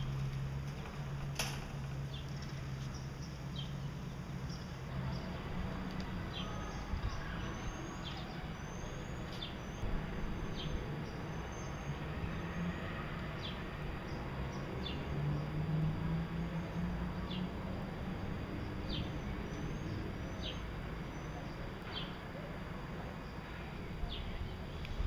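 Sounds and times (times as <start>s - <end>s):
cage birds chirping: 0.0s - 25.0s
steady low hum: 0.0s - 25.0s.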